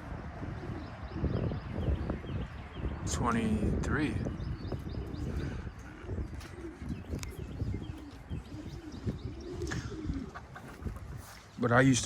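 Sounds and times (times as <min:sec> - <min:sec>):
pigeons cooing: 0:00.0 - 0:11.6.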